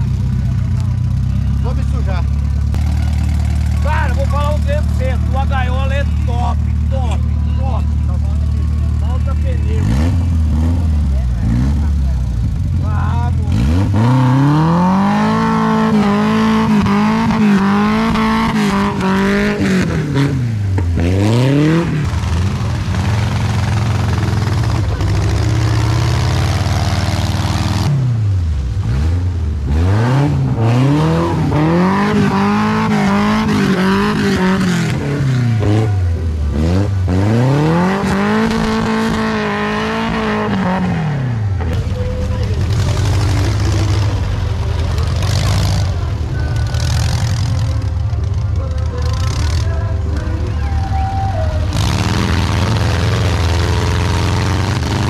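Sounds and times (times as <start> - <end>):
buggy engine revving: 0.0 - 55.0.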